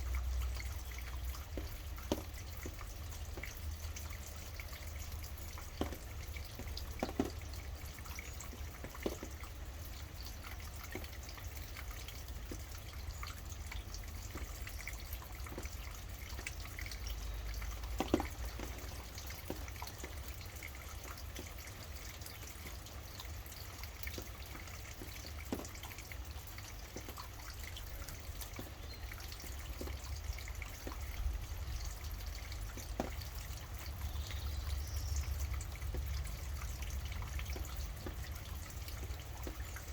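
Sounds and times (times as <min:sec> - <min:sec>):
drops dripping and tapping: 0:00.0 - 0:39.9
steady rain: 0:00.0 - 0:39.9.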